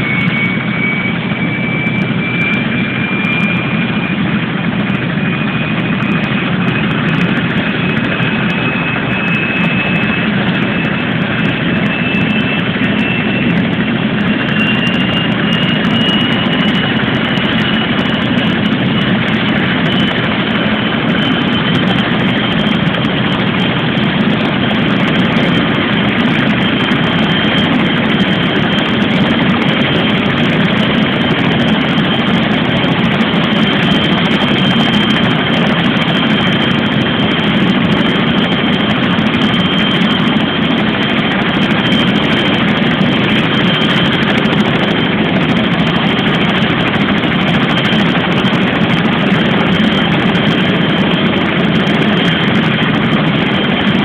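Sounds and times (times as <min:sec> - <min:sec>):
helicopter rotor and engine din: 0:00.0 - 0:54.0
high turbine whine: 0:00.0 - 0:54.0.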